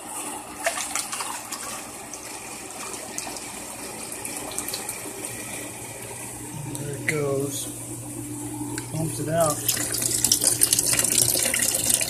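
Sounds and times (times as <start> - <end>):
water pouring through a funnel: 0.0 - 7.5, 8.6 - 12.0
pump motor humming: 0.0 - 12.0.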